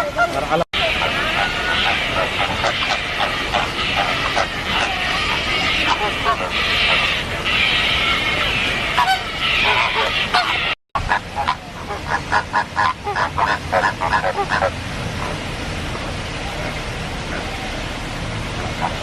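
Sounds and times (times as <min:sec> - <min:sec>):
birds calling: 0:00.1 - 0:15.4.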